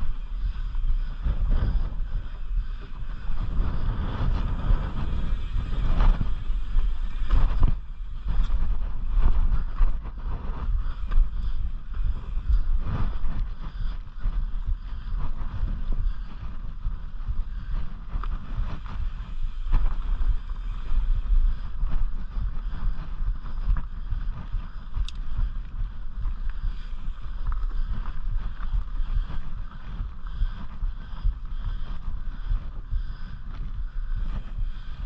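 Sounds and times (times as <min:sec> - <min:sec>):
bike clicks and rattles: 0:00.0 - 0:35.0
low wind rumble on microphone: 0:00.0 - 0:35.0.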